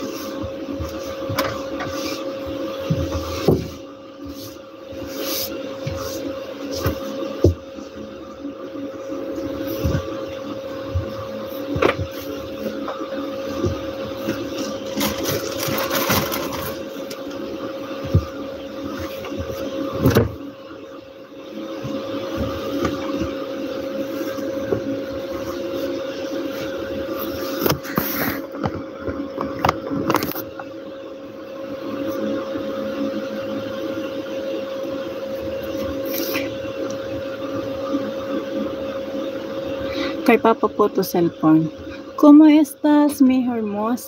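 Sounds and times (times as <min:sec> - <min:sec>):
steady mechanical hum: 0:00.0 - 0:44.0.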